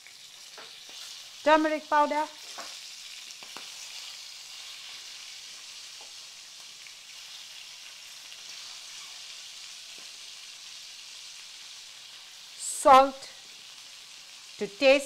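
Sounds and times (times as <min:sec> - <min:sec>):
hot oil sizzling in a wok: 0:00.0 - 0:15.0.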